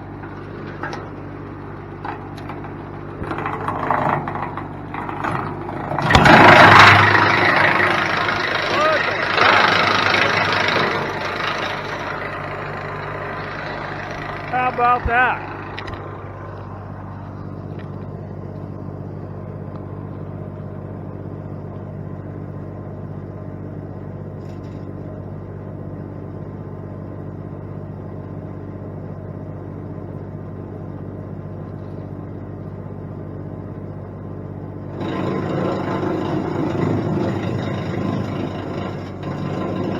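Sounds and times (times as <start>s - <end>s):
tractor engine and wood chipper: 0.0s - 39.9s.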